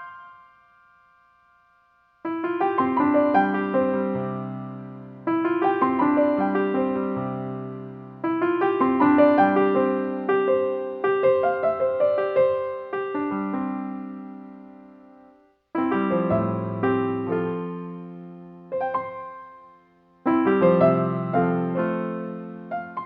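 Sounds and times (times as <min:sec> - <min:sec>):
piano music: 0:00.0 - 0:01.2, 0:02.2 - 0:23.0.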